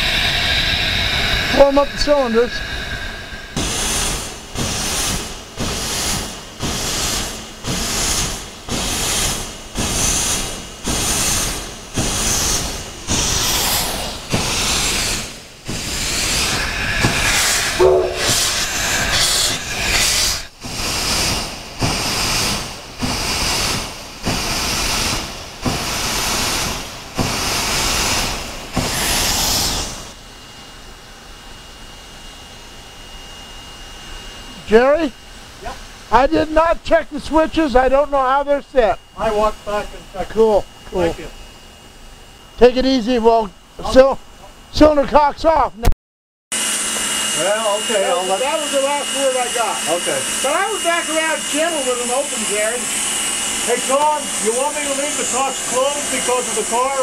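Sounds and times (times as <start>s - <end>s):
hissing steam: 0.0s - 31.6s, 33.3s - 41.5s, 46.6s - 57.0s
steam locomotive chuffing: 0.0s - 45.2s, 46.6s - 57.0s.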